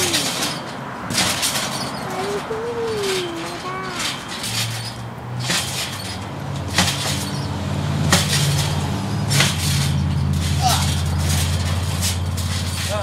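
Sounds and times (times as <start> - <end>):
trampoline springs clanking: 0.0 - 13.0.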